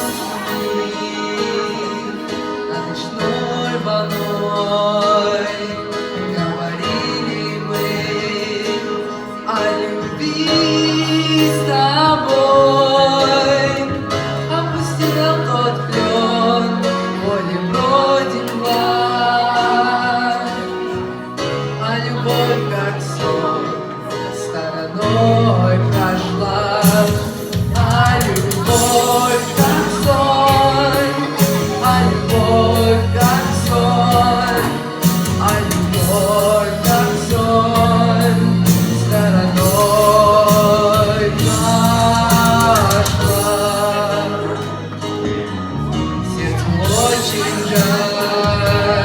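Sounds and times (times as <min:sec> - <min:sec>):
man singing: 0:00.0 - 0:49.0
pop ballad with guitar: 0:00.0 - 0:49.0.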